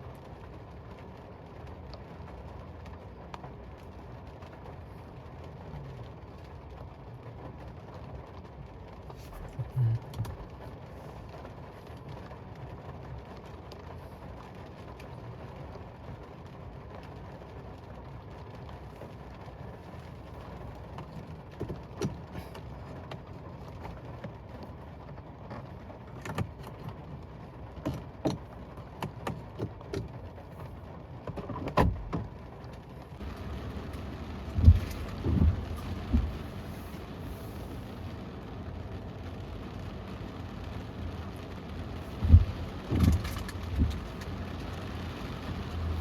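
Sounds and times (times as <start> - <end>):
rain on car roof: 0.0 - 46.0
raindrop taps and knocks: 5.4 - 46.0.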